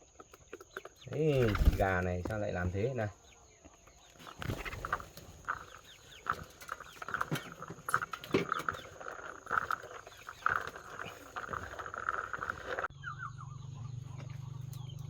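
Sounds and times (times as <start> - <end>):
chickens pecking: 0.0 - 15.0
hens clucking: 0.0 - 15.0.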